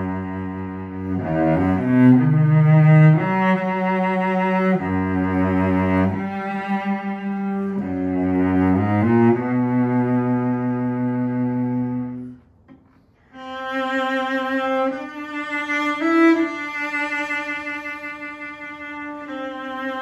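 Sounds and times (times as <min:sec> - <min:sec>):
bowed cello: 0:00.0 - 0:20.0.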